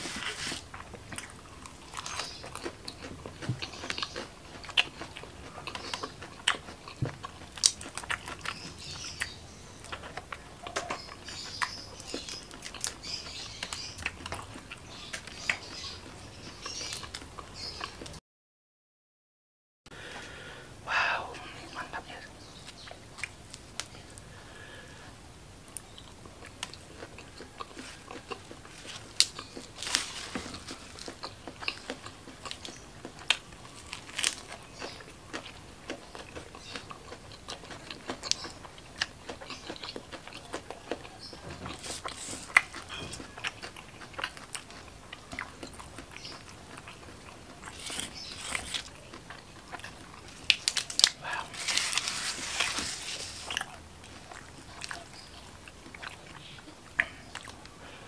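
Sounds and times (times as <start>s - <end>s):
crunching: 0.0s - 18.2s, 25.7s - 57.6s
person chewing food: 0.0s - 18.2s, 22.5s - 25.0s, 25.6s - 58.0s.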